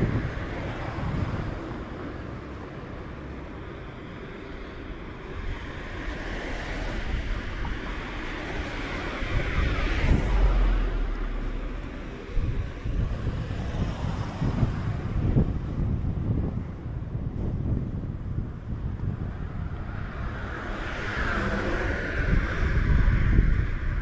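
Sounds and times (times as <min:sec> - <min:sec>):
tyre hiss of passing vehicle: 0:00.0 - 0:15.5, 0:19.5 - 0:24.0
wind buffeting microphone: 0:00.0 - 0:24.0.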